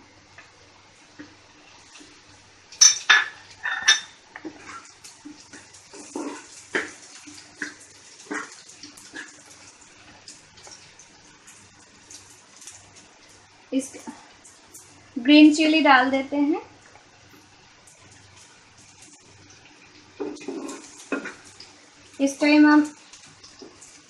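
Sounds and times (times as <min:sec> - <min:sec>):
faint sizzle: 0:00.0 - 0:24.0.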